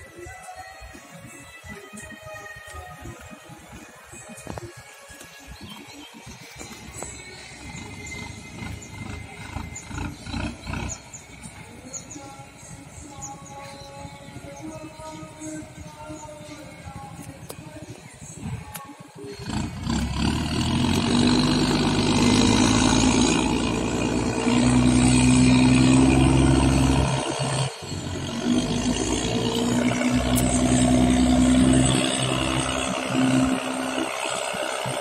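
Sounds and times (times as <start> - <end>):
diesel engine under heavy load: 0.0 - 35.0.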